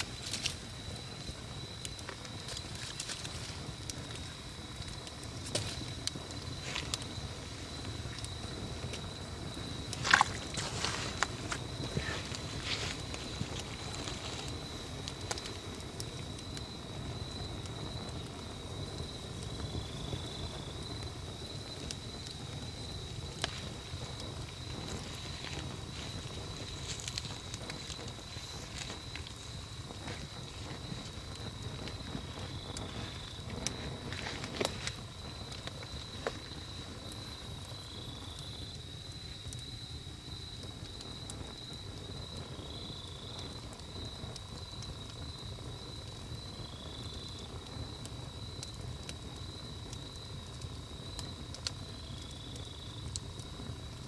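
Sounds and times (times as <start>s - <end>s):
high-pitched insect trill: 0.0s - 48.6s
fire crackles and pops: 0.0s - 54.0s
low rush of flames: 0.0s - 54.0s.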